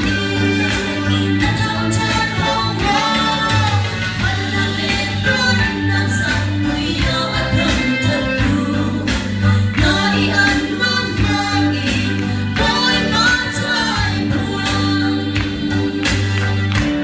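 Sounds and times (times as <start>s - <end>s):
woman singing gospel: 0.0s - 16.8s
bass notes: 0.0s - 17.0s.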